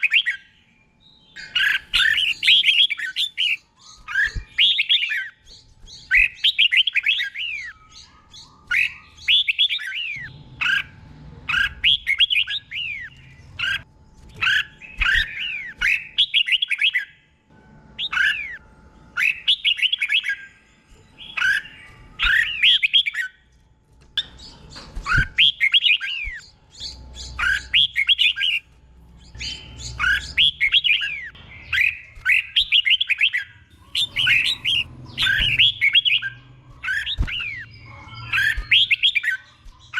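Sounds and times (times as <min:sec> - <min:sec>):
bird singing whistled notes: 0:00.0 - 0:17.2, 0:19.2 - 0:23.4, 0:24.2 - 0:39.9.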